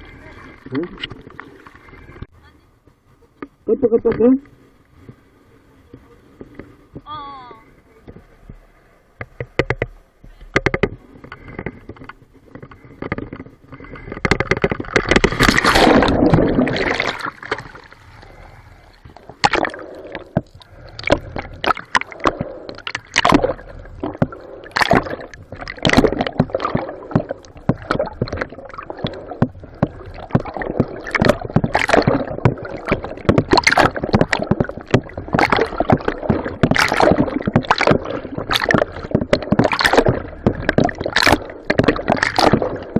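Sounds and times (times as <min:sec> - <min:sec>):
knocks and gurgles: 0:00.0 - 0:02.3, 0:08.0 - 0:42.9
water splashing and sloshing: 0:00.0 - 0:42.9.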